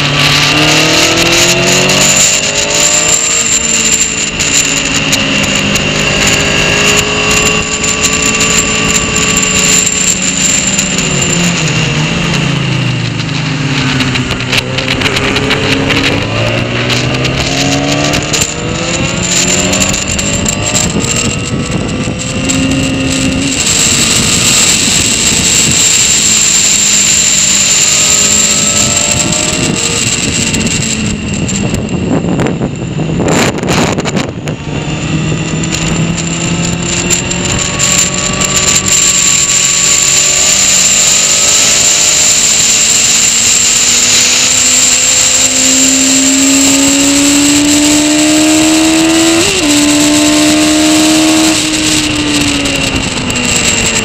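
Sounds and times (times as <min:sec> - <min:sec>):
motorcycle engine accelerating: 0:00.0 - 0:54.0
wind rushing: 0:00.0 - 0:54.0.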